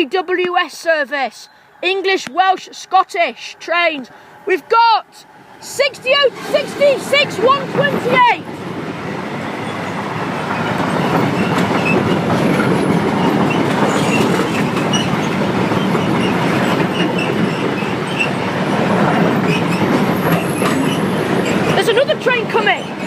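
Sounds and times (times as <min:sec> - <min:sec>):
train wheels rumbling on rails: 0:01.8 - 0:23.0.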